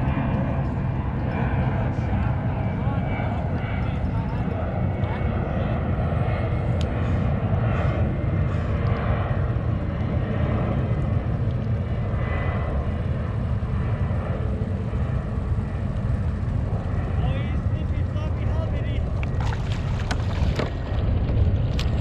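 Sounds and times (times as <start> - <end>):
airplane engines rumbling overhead: 0.0 - 22.0.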